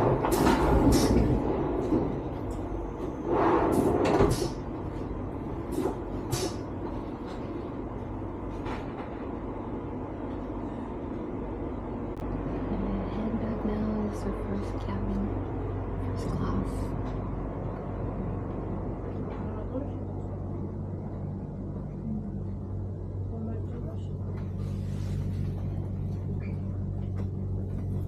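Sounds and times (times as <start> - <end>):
train cabin rumble: 0.0 - 28.0.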